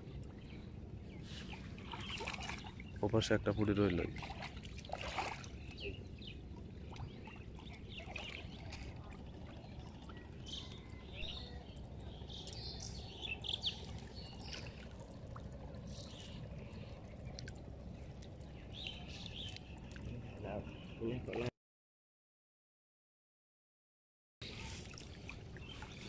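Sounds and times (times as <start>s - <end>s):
low background rumble: 0.0s - 21.3s
water splashes and trickles: 0.0s - 21.5s, 24.4s - 26.0s.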